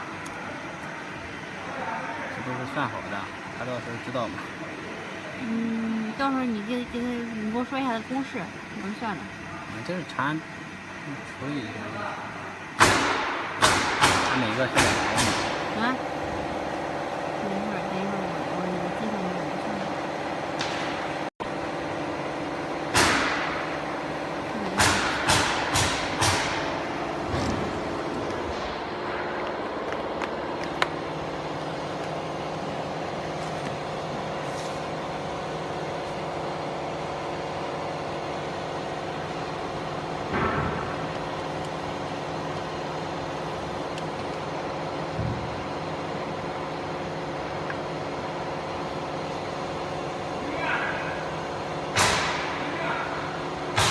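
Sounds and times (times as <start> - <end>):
cooling fan tones: 0.0 - 53.9
machine hum: 0.0 - 53.9.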